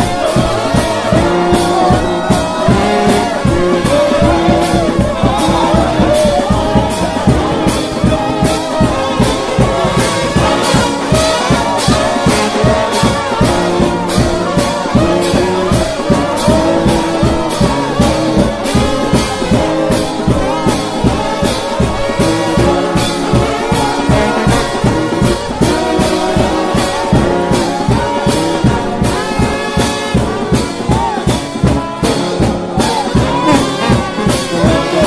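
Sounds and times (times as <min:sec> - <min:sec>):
loud brass band playing: 0:00.0 - 0:35.0
steady drum beat: 0:00.0 - 0:35.0.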